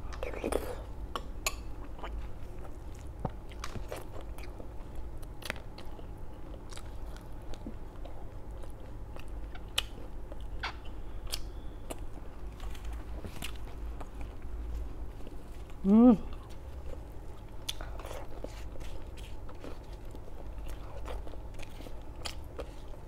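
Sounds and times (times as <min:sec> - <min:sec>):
person chewing crunchy food: 0:01.1 - 0:23.0.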